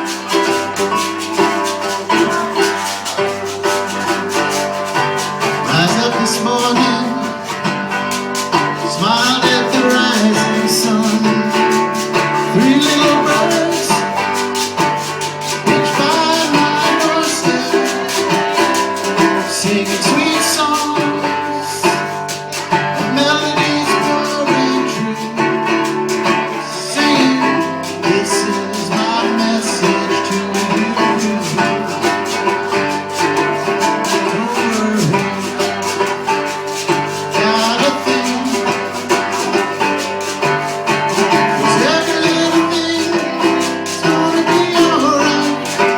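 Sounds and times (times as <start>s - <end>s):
acoustic guitar strumming: 0.0s - 45.9s
shaker rattle: 0.0s - 45.9s.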